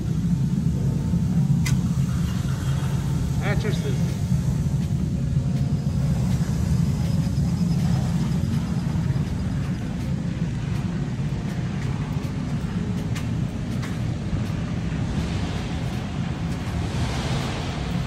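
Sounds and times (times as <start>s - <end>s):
faint high whine: 0.0s - 18.0s
low machine rumble: 0.0s - 18.0s.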